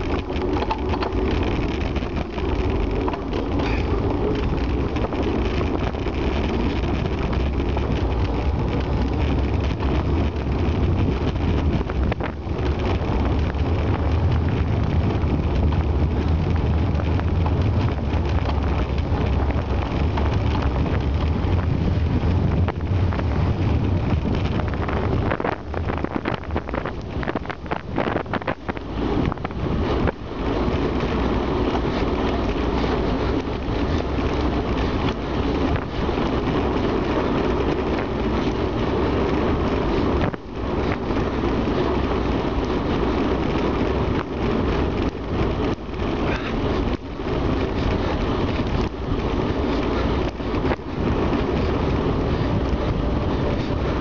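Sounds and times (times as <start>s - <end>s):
road and tyre noise: 0.0s - 54.0s
wind buffeting microphone: 0.0s - 54.0s.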